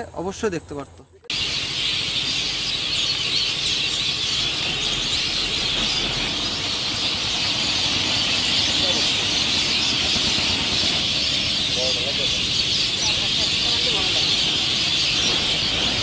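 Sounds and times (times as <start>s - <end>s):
flock of songbirds chirping: 0.0s - 16.0s.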